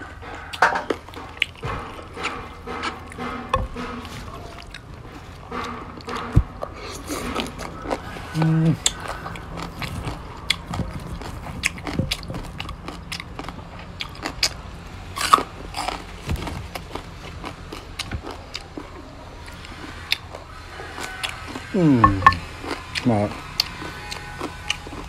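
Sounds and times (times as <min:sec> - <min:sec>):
mouth chewing and crunching: 0:00.0 - 0:25.0.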